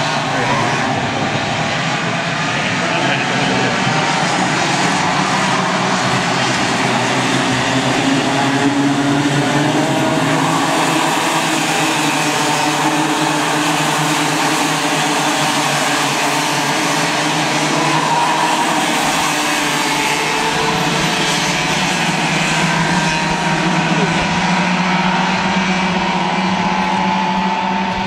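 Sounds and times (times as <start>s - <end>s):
racing kart engines buzzing: 0.0s - 28.0s.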